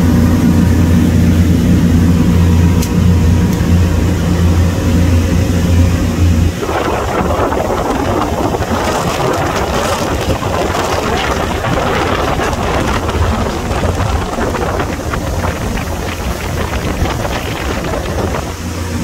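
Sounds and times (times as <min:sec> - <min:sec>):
boat engine droning: 0:00.0 - 0:19.0
water rushing past hull: 0:00.0 - 0:19.0
wind buffeting microphone: 0:00.0 - 0:19.0.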